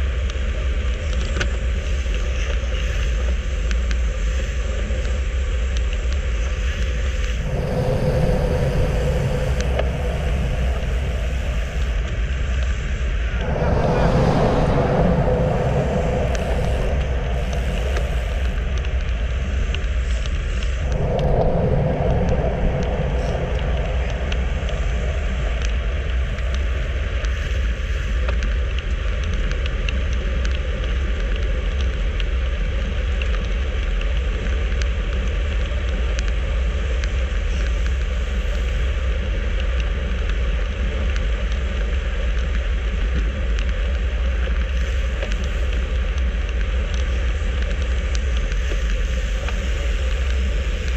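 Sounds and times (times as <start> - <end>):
wind rushing over microphone: 4.9 - 50.9.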